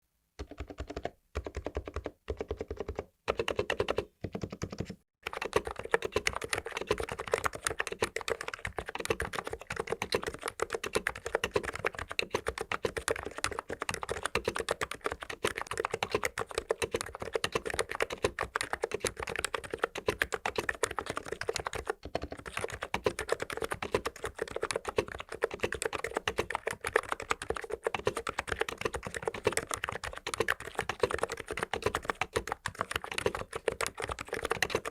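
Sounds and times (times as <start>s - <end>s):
typing on keyboard: 0.4s - 34.9s.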